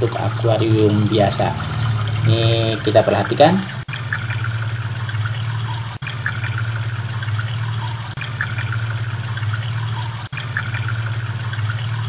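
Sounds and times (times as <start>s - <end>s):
pump humming: 0.0s - 12.0s
water splashing and hissing: 0.0s - 12.0s.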